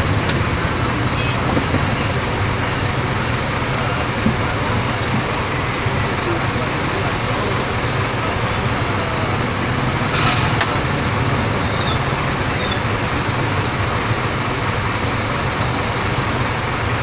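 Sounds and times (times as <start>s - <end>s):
diesel engine low rumble: 0.0s - 17.0s
surrounding traffic: 0.0s - 17.0s.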